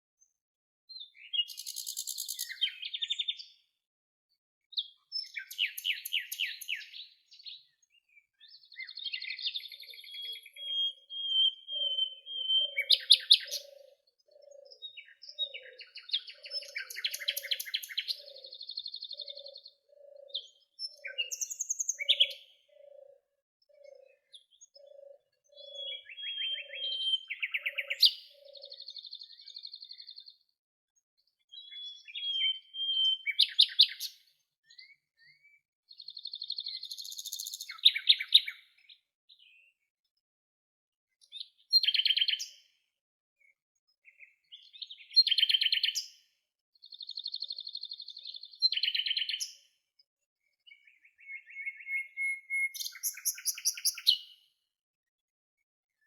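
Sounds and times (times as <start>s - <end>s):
songbirds singing trilled phrases: 0.2s - 40.3s, 41.1s - 54.8s.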